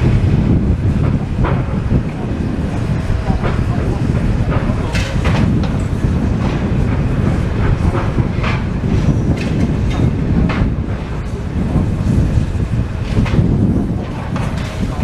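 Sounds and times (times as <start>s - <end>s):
machinery engine rumble: 0.0s - 15.0s
rubble and timber clattering: 0.0s - 15.0s.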